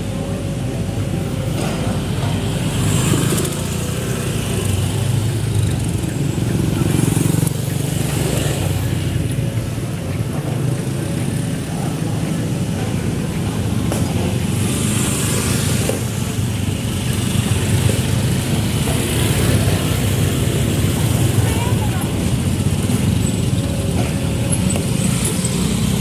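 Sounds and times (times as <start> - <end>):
small motorcycle engine running: 0.0 - 26.0.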